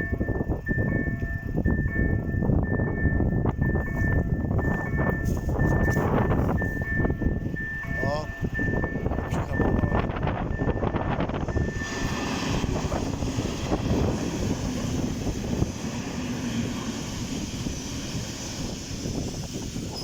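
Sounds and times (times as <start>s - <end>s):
crossing warning tone: 0.0s - 20.0s
train wheels rumbling: 0.0s - 20.0s.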